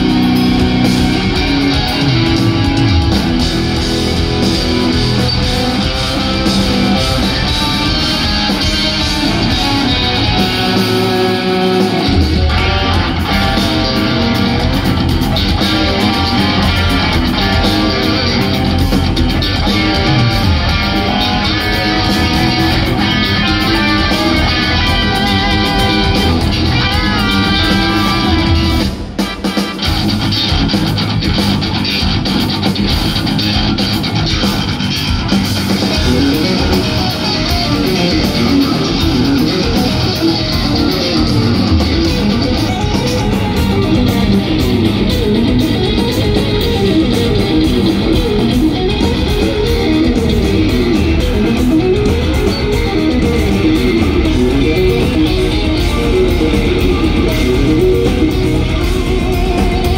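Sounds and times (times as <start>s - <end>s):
progressive metal band playing: 0.0s - 59.9s.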